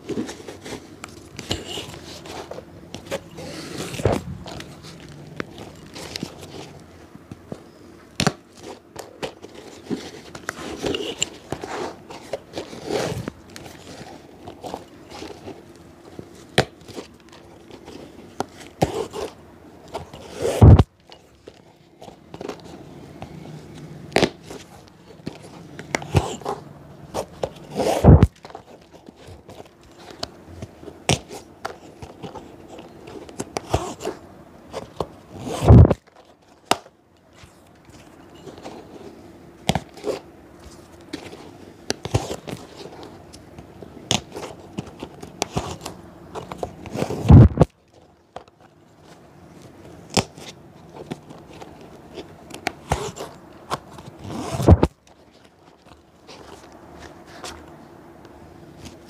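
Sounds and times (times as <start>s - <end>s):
tools scraping and rubbing leather: 0.0s - 58.0s.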